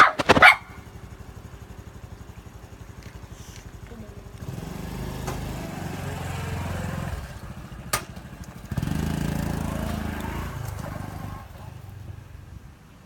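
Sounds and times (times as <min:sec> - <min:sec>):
small motorcycle engine revving: 0:00.0 - 0:12.3.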